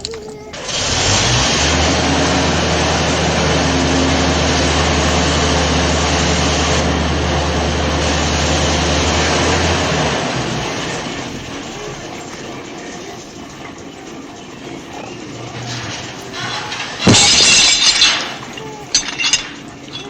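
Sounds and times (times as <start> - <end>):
vehicle engine noise: 0.0 - 20.0.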